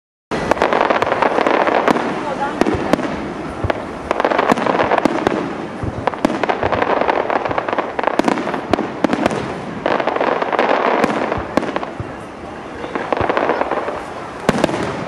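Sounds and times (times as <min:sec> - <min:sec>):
firework bangs: 0:00.3 - 0:15.0
firework crackling: 0:00.3 - 0:15.0.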